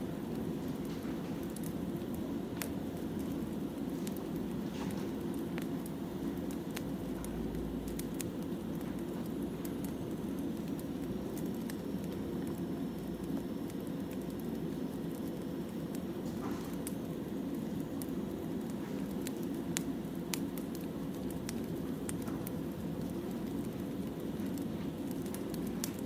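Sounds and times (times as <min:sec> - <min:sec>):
low rumble of fire: 0:00.0 - 0:26.0
wood fire crackling and popping: 0:00.0 - 0:26.0.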